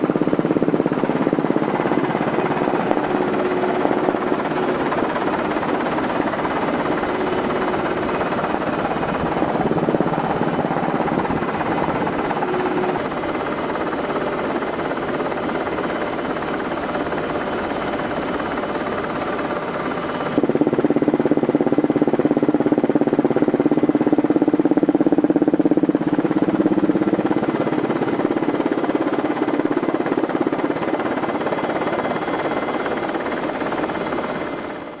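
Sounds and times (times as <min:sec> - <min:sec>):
aircraft cabin drone: 0:00.0 - 0:34.9.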